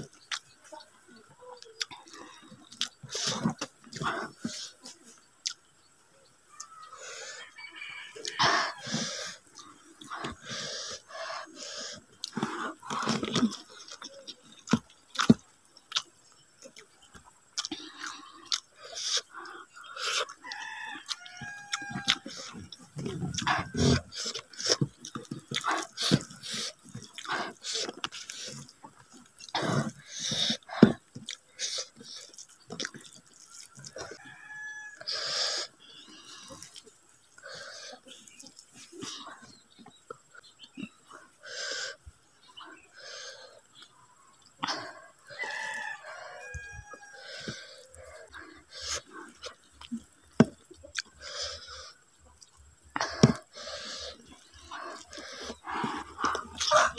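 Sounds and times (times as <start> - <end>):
wet open-mouth chewing: 0.0 - 0.9, 1.6 - 5.7, 6.6 - 56.9.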